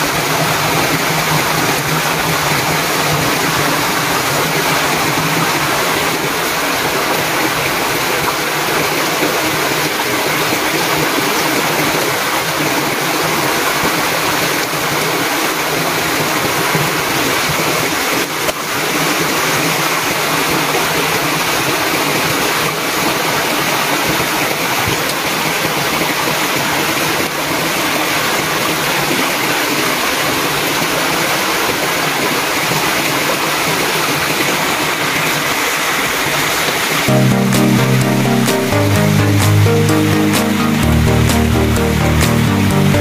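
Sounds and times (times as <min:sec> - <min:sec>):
stream running over stones: 0:00.0 - 0:37.1.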